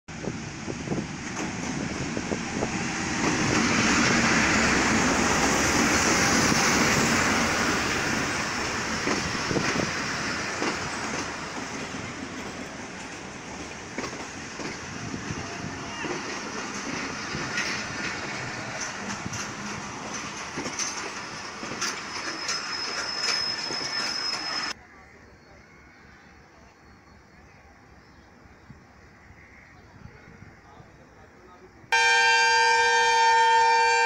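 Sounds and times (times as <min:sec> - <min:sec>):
passenger train passing: 0:00.1 - 0:29.2, 0:30.4 - 0:34.0.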